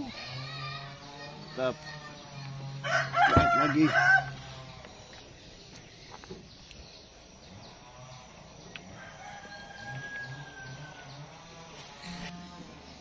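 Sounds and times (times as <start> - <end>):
quiet bird calls: 0.0 - 13.0.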